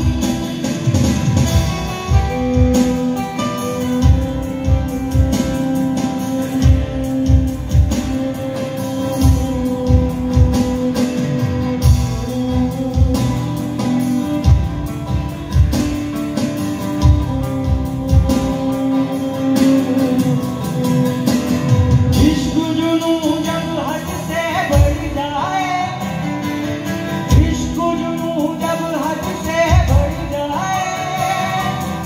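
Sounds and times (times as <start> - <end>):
acoustic guitars strumming: 0.0 - 32.0
person singing: 1.5 - 14.6, 17.0 - 32.0.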